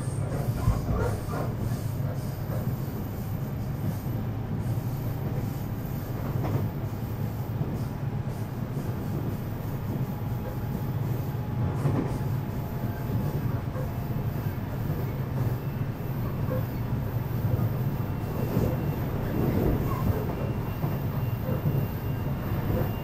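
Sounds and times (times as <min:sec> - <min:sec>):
train rattles: 0:00.0 - 0:23.0
train wheels rumbling: 0:00.0 - 0:23.0.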